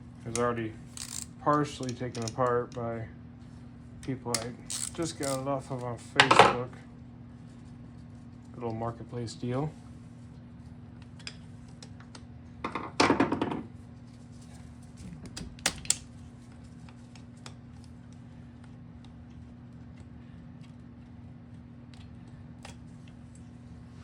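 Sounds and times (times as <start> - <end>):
steady low hum: 0.0 - 13.0, 13.6 - 24.0.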